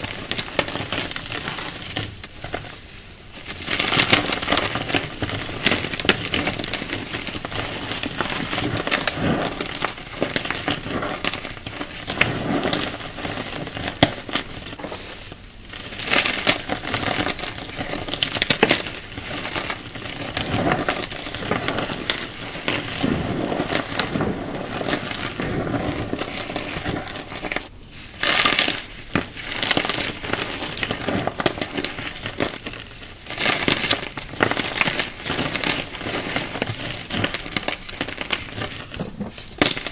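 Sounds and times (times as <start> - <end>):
hands crushing chalk: 0.0 - 39.9.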